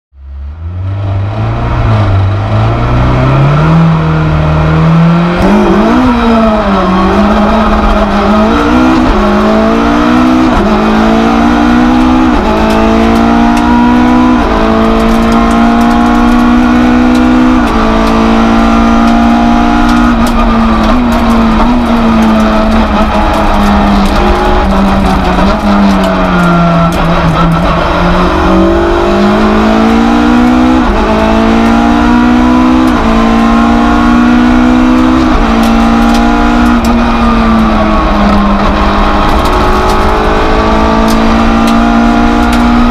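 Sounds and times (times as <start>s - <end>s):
rally car engine revving: 0.2s - 42.9s.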